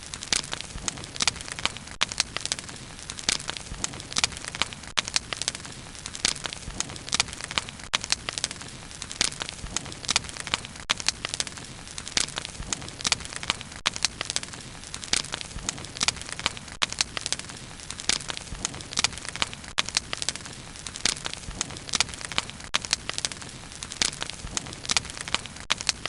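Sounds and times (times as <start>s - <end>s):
wood bonfire crackling: 0.0s - 26.0s.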